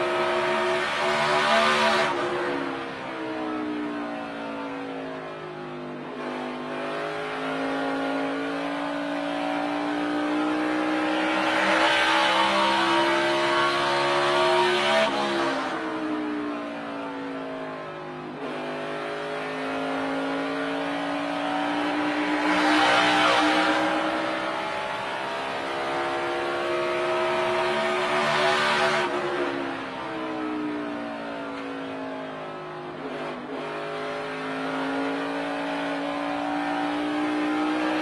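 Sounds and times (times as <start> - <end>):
race car engine at full throttle: 0.0 - 38.0.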